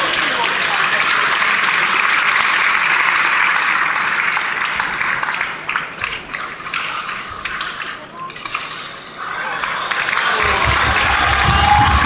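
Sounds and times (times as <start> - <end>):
arena crowd applauding: 0.0 - 12.0.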